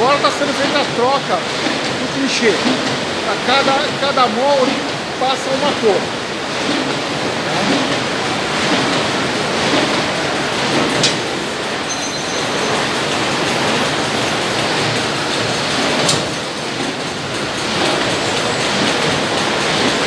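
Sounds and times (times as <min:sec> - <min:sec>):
factory machinery running: 0:00.0 - 0:20.0.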